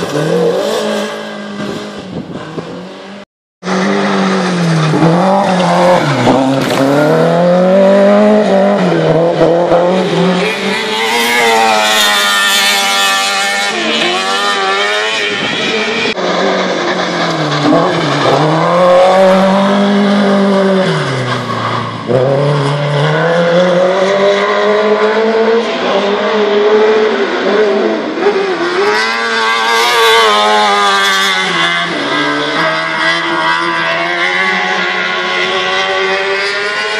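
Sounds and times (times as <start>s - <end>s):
car engines revving hard: 0.0s - 36.9s.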